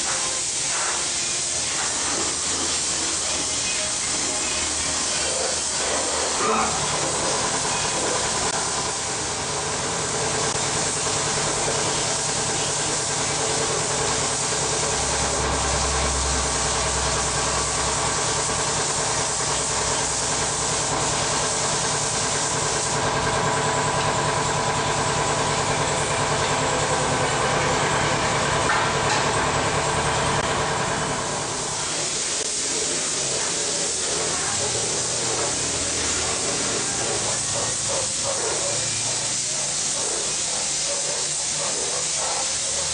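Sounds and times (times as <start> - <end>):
paint spray gun hissing: 0.0 - 26.8, 31.4 - 42.9.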